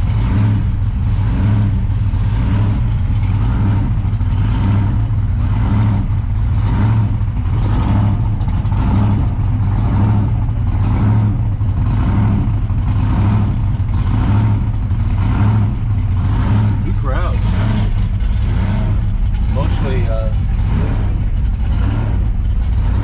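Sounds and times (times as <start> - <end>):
car engine droning: 0.0 - 23.0.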